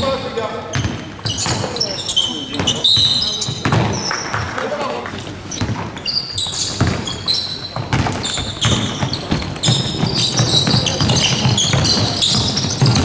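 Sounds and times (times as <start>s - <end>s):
sneaker squeaks: 0.0s - 4.5s, 5.3s - 13.0s
basketball bouncing: 0.7s - 4.5s, 5.5s - 13.0s.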